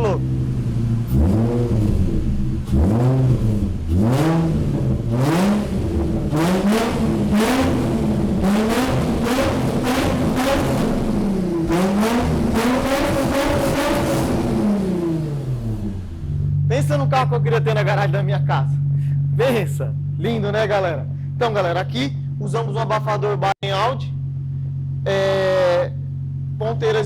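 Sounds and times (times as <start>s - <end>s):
car engine revving: 0.0s - 23.5s.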